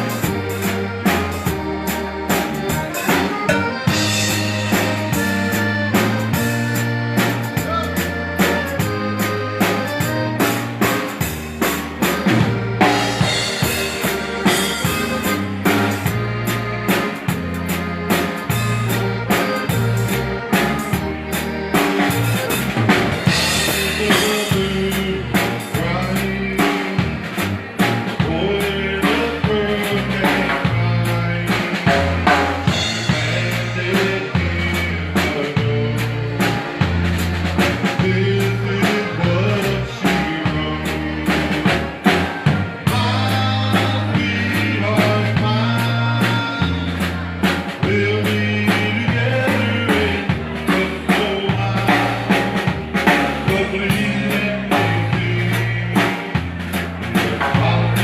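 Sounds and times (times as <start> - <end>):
band playing dance music: 0.0 - 58.0
steady drum beat: 0.0 - 58.0.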